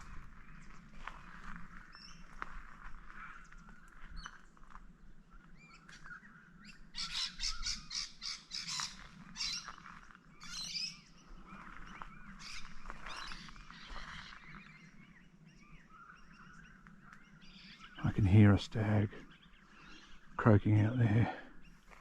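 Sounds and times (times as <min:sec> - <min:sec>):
wild birds chirping: 0:00.0 - 0:22.0.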